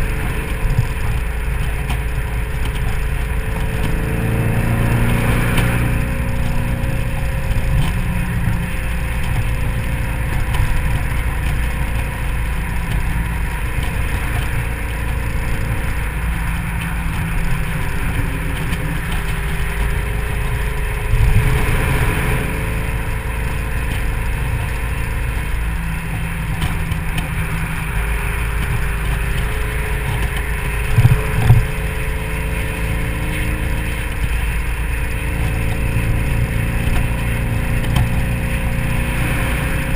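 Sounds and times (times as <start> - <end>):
car engine cruising: 0.0 - 39.9
road noise: 0.0 - 39.9
wind noise: 0.0 - 39.9.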